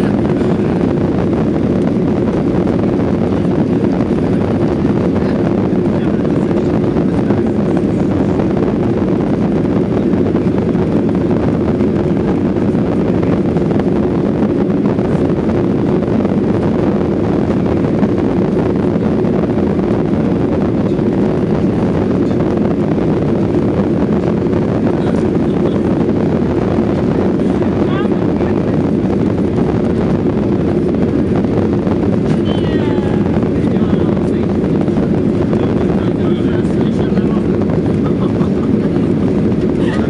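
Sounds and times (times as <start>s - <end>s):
airplane cabin engine noise: 0.0s - 40.0s.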